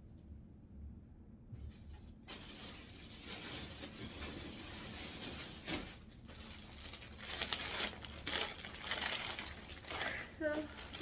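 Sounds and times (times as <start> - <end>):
clothes and packaging rustling: 1.6 - 11.0.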